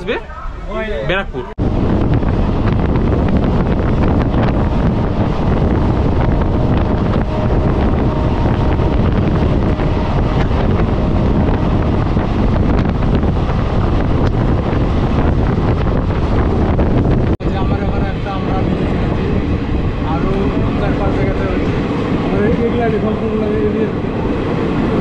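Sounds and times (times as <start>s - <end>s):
air buffeting microphone: 0.0s - 25.0s
train wheels rumbling on rails: 1.6s - 25.0s.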